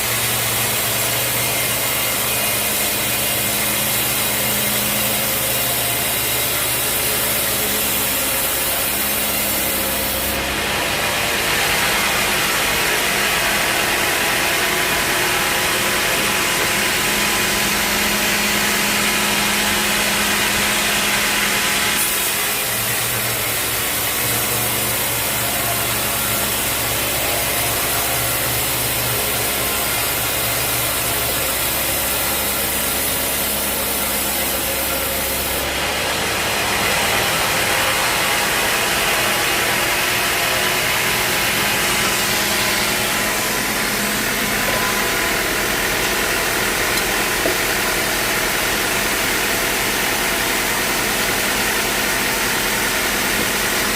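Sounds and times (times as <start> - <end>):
mill engine running: 0.0 - 53.9
saw blade cutting log: 0.0 - 53.9.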